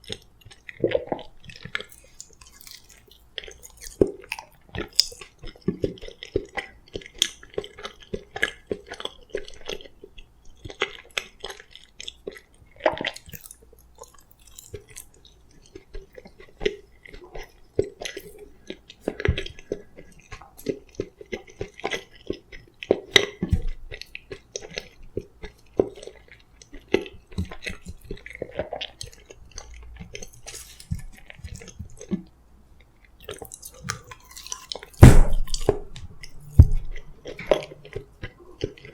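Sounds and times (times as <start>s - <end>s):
person chewing: 0.0s - 38.9s.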